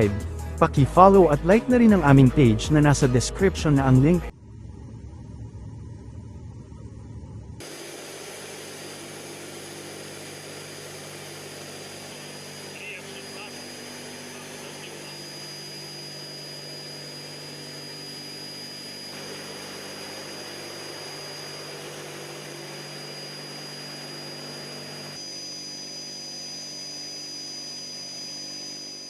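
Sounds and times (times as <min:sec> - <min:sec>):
aircraft engine whine and drone: 0:03.8 - 0:29.0.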